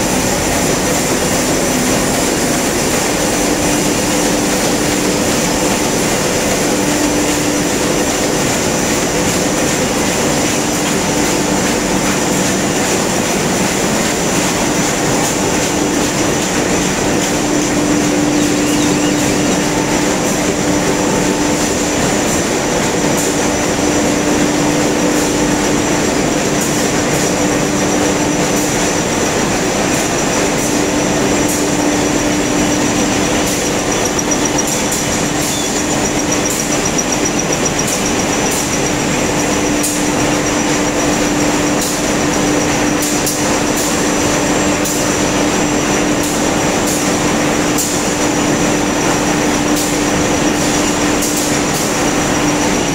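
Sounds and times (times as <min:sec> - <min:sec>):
machine running at high speed: 0:00.0 - 0:52.9.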